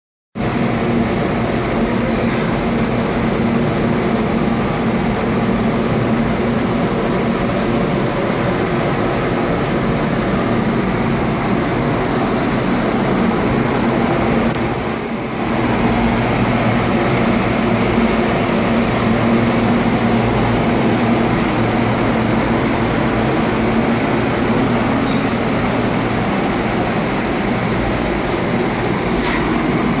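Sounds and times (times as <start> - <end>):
machinery droning: 0.4 - 30.0.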